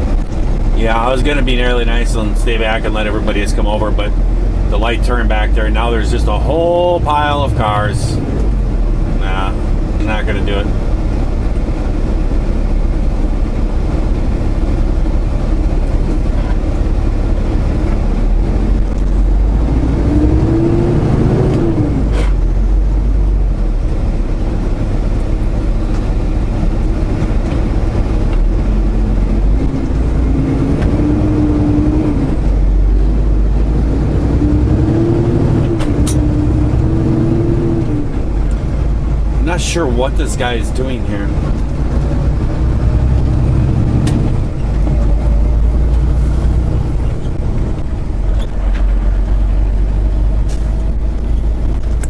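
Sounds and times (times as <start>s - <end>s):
road rumble: 0.0s - 52.0s
truck diesel engine: 0.0s - 52.0s.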